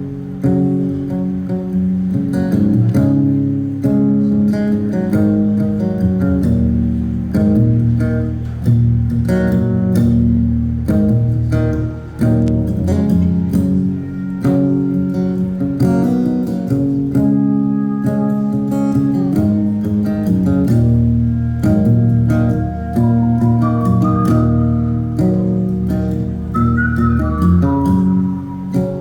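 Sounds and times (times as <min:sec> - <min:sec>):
strummed acoustic guitar: 0:00.0 - 0:29.0
bass line: 0:05.2 - 0:29.0.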